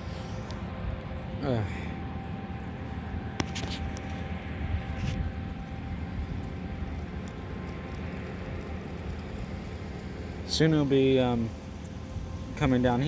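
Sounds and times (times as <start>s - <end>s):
steady machine drone: 0.0s - 13.0s
thin steady whine: 0.0s - 13.0s.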